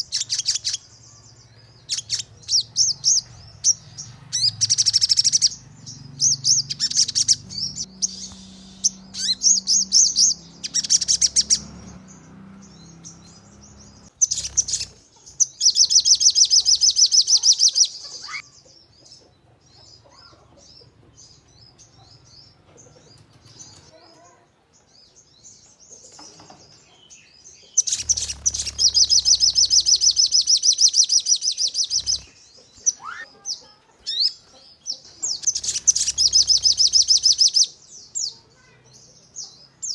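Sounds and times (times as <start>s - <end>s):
soft bird chattering notes: 0.0s - 1.0s, 1.8s - 24.4s, 27.6s - 39.9s.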